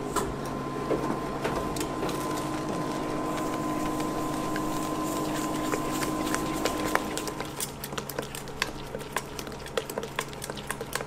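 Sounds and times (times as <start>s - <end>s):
induction cooktop humming: 0.0s - 11.0s.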